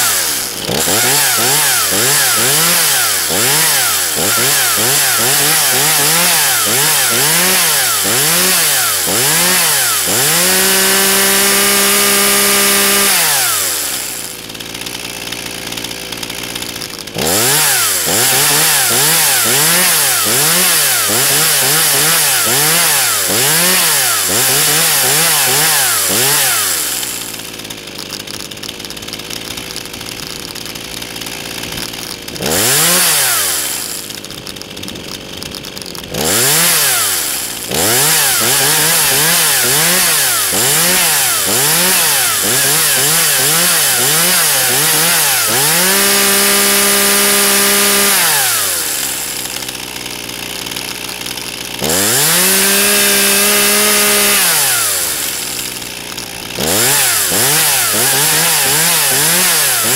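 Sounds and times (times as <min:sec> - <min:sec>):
chainsaw engine idling and revving: 0:00.0 - 0:59.9.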